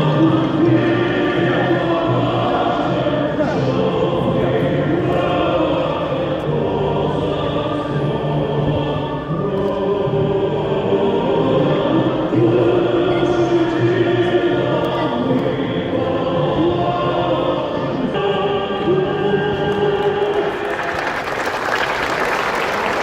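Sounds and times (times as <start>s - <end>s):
choir singing sustained notes: 0.0s - 23.0s.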